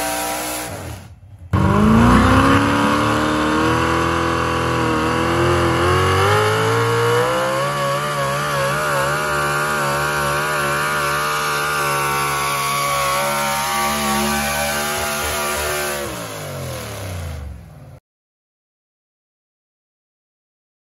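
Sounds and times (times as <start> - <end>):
pickup truck engine at full throttle: 0.0 - 18.0.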